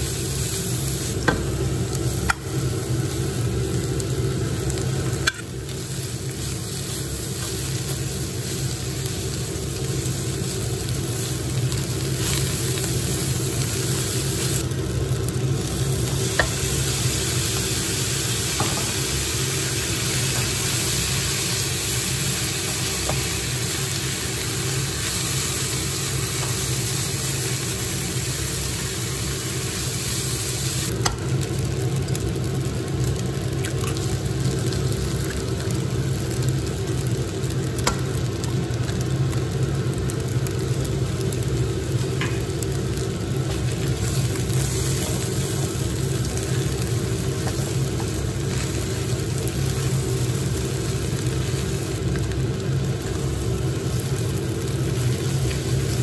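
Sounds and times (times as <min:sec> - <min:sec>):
fried rice sizzling in a pan: 0:00.0 - 0:56.0.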